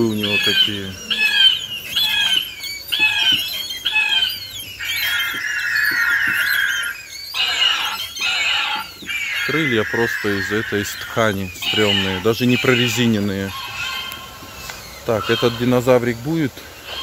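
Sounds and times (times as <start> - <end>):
shrill screeches from loudspeaker: 0.0 - 17.0.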